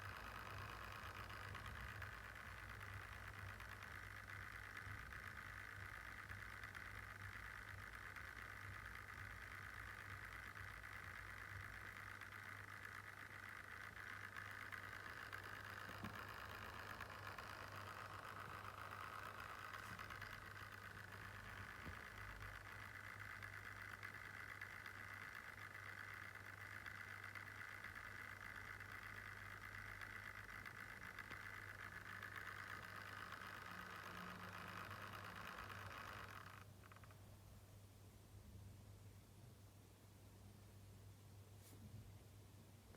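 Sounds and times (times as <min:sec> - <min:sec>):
laptop cooling fan whirring: 0:00.0 - 0:42.9.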